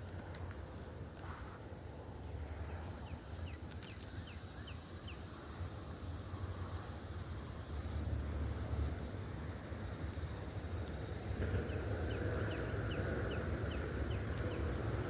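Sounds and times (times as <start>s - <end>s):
high insect whine: 0.6s - 15.0s.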